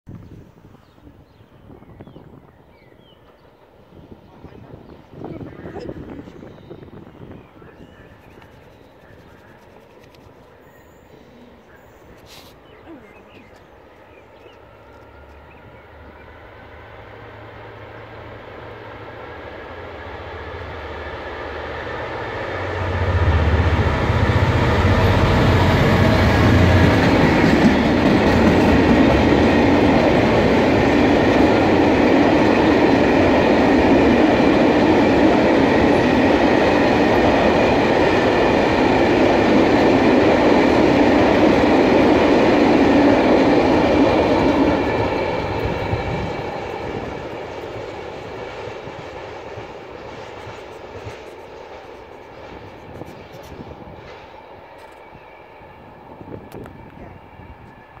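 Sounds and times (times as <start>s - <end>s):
diesel locomotive engine: 1.6s - 58.0s.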